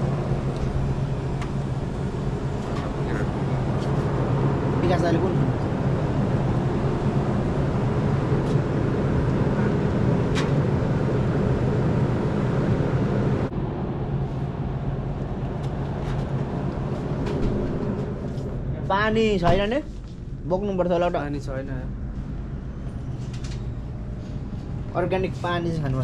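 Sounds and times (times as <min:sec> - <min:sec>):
road noise: 0:00.0 - 0:26.0
vehicle engine hum: 0:00.0 - 0:26.0.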